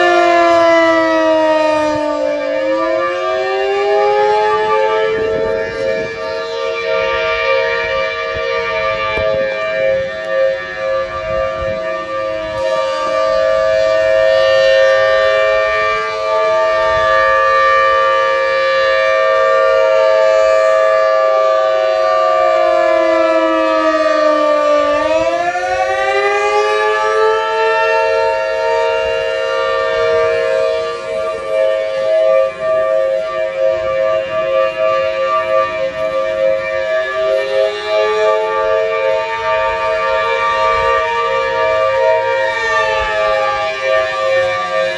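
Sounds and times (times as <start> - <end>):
emergency warning siren wailing: 0.0 - 44.9.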